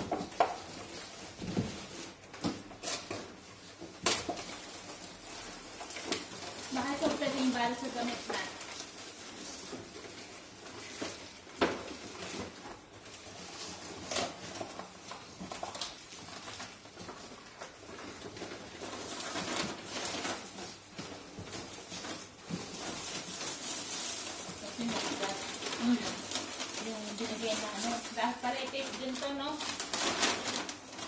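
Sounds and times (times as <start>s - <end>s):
plastic bags rustling: 0.0s - 31.0s.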